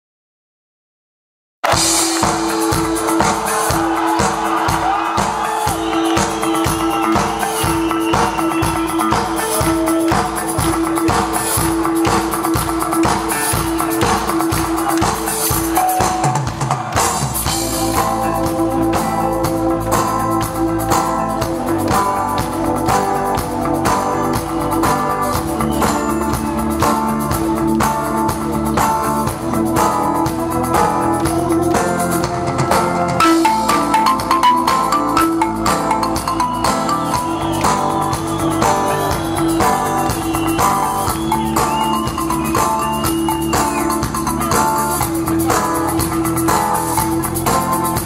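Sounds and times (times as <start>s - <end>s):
bass and guitar lines: 1.7s - 48.0s
steady drum beat: 1.7s - 48.0s.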